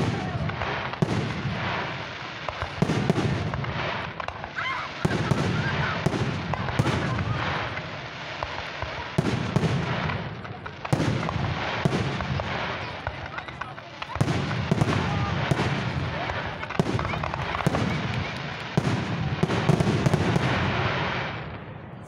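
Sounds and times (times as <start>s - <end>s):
fireworks hissing: 0.0s - 21.4s
firework bangs: 0.0s - 22.0s.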